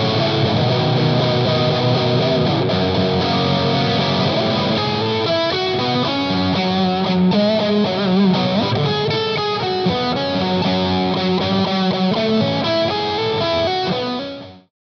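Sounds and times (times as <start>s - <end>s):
overdriven electric guitar lead: 0.0s - 14.7s.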